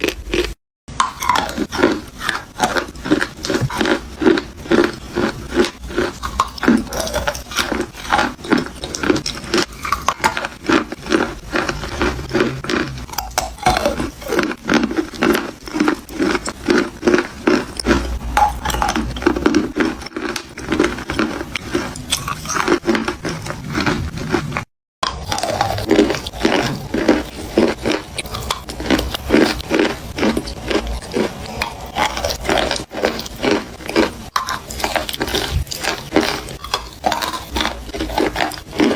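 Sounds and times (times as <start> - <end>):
person chewing chalk crunching: 0.0 - 38.9.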